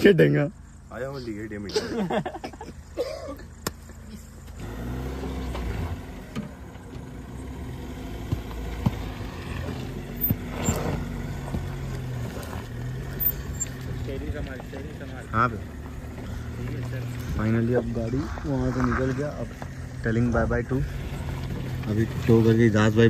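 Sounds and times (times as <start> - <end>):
vehicle engine at low revs: 0.0 - 23.0.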